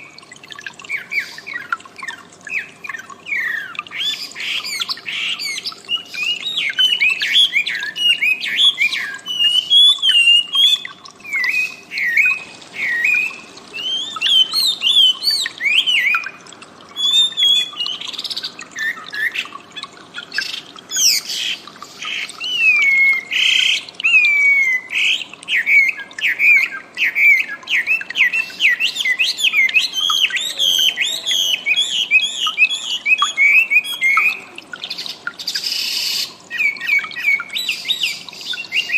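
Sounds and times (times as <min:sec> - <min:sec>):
harsh squawky bird calls: 0:00.9 - 0:16.4, 0:17.0 - 0:38.9
bird chirping and whistling: 0:00.9 - 0:38.9.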